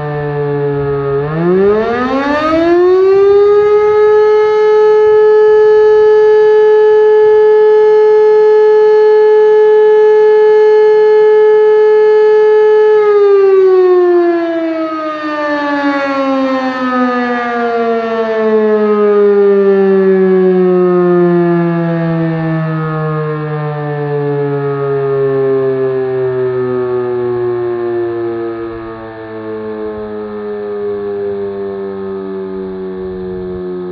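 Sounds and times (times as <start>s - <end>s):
civil defence siren winding down: 0.0s - 33.9s.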